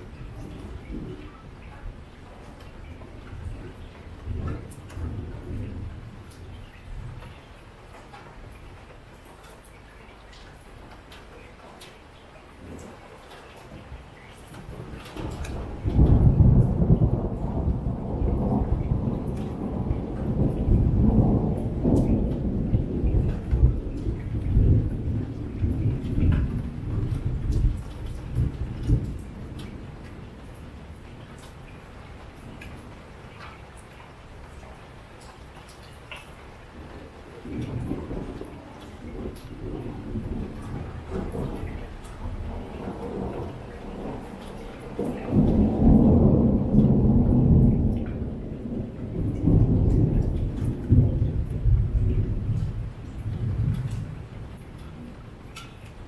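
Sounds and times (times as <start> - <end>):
thunder rumbling: 0.0 - 11.8, 12.4 - 56.0
heavy rain falling: 0.0 - 56.0.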